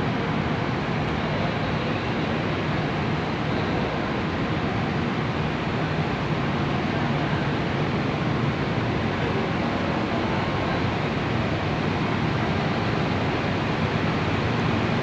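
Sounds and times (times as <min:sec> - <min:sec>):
ferry machinery drone: 0:00.0 - 0:15.0.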